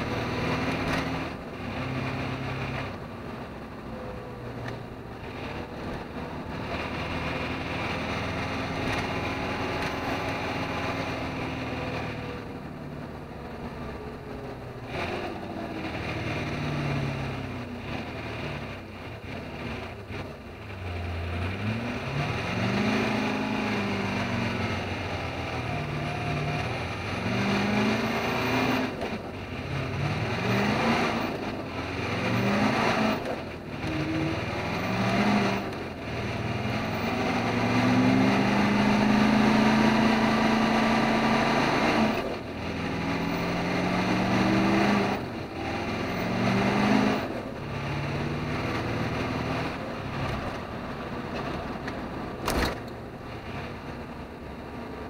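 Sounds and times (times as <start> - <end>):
diesel truck engine under load: 0.0 - 55.0
road noise: 0.0 - 55.0.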